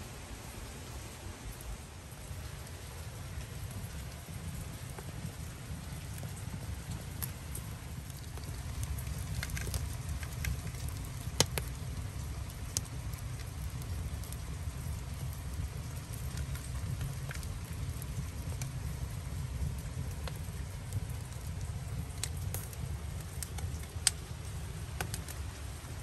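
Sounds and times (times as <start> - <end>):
low fire rumble: 0.0 - 26.0
firewood crackling and popping: 1.4 - 26.0.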